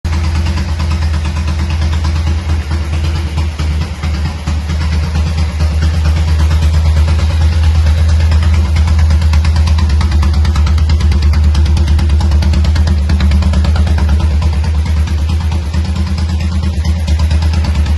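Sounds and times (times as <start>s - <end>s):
motorcycle engine idling: 0.1s - 17.9s.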